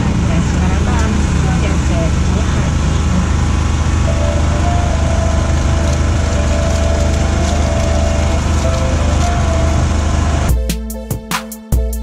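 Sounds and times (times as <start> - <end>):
low mechanical hum: 0.0 - 10.6
street noise: 0.0 - 11.6.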